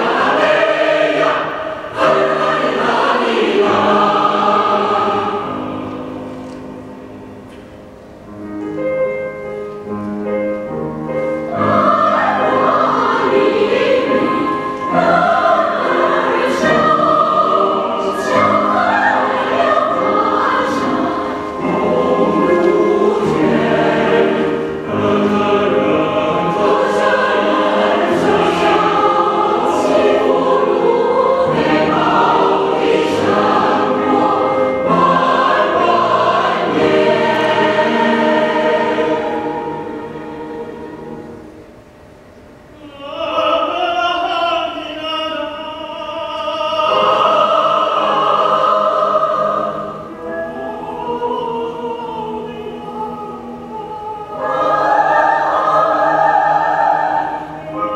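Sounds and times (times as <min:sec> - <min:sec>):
mixed choir singing in parts: 0:00.0 - 0:07.3, 0:10.6 - 0:41.7, 0:42.8 - 0:57.9.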